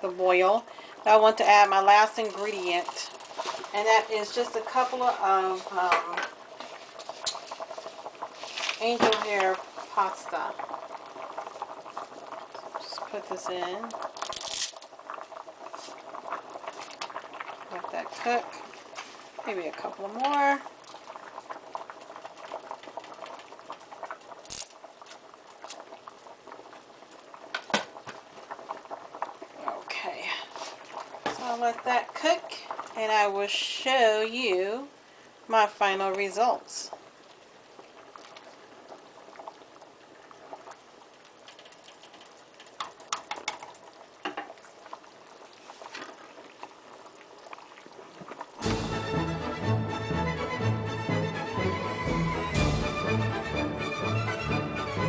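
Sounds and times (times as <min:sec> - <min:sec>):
soup bubbling in a pot: 0:00.0 - 0:49.2.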